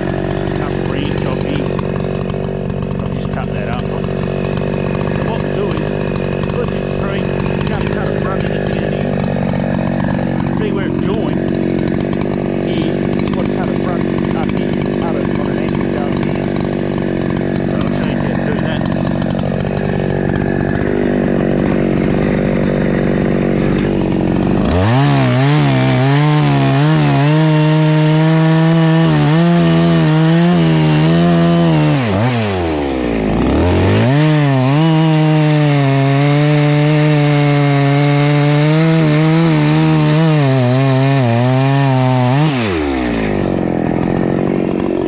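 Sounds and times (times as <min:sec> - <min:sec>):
chainsaw idling and cutting: 0:00.0 - 0:45.0.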